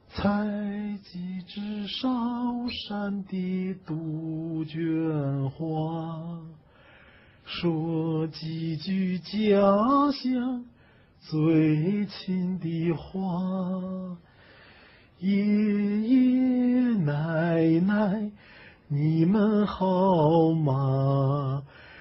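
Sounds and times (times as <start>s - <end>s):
man singing unaccompanied: 0.0s - 6.6s, 7.4s - 14.3s, 15.2s - 22.0s.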